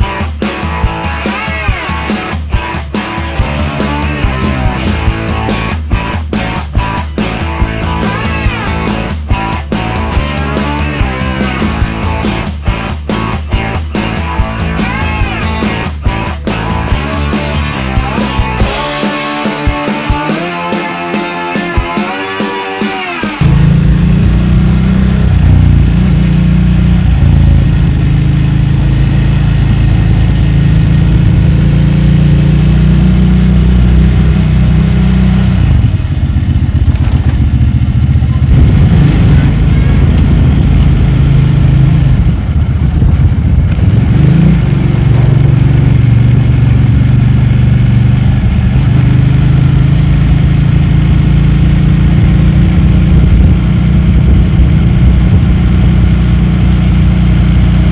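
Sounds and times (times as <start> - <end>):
motorcycle engine running: 0.0 - 22.6, 23.3 - 57.9.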